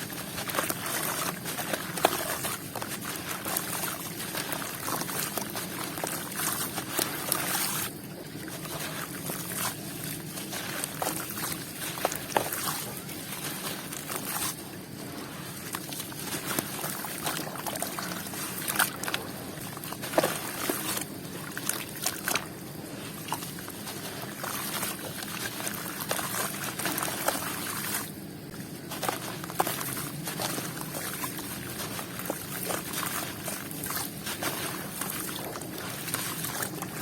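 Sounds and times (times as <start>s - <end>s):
dried food crackling in water: 0.0s - 37.0s
water sloshing: 0.0s - 37.0s.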